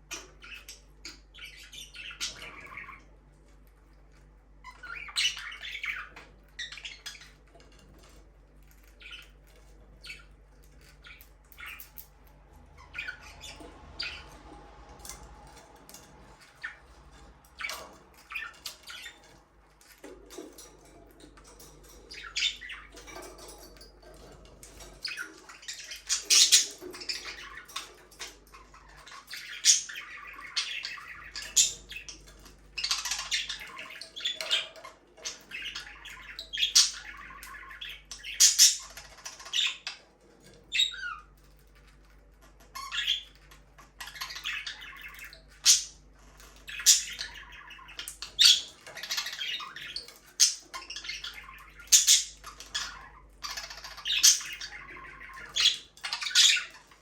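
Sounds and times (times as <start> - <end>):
budgerigars chirping and squawking: 0.0 - 57.0.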